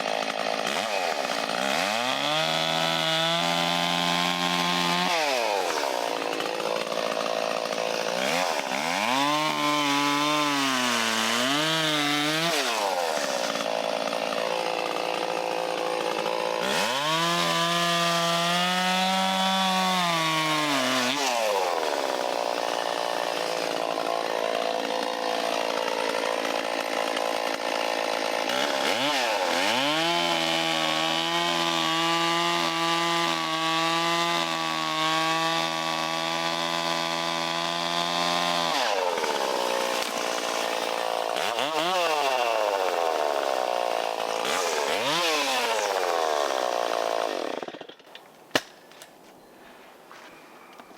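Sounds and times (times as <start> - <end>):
chainsaw cutting wood: 0.0 - 49.3.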